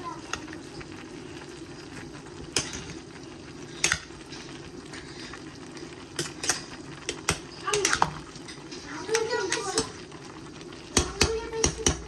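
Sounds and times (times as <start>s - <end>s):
curry bubbling in pot: 0.0s - 12.0s.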